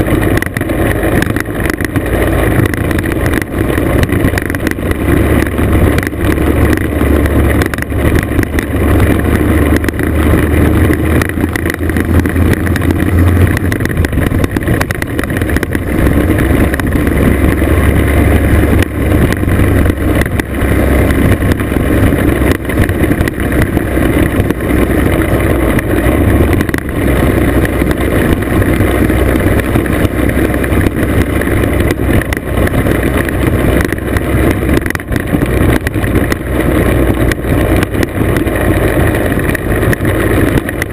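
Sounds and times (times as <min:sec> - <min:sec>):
two-stroke scooter engine running: 0:00.0 - 0:40.9
tyres rattling over gravel: 0:00.0 - 0:40.9
wind buffeting microphone: 0:00.0 - 0:40.9.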